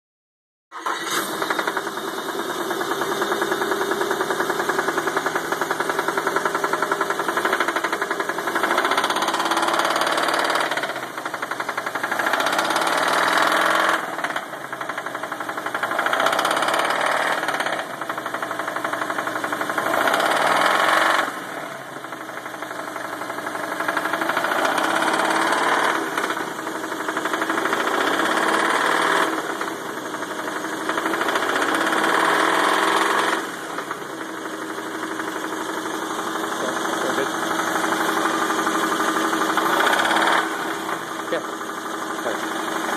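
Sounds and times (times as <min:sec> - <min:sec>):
engine running with rapid knock: 0:00.8 - 0:42.9.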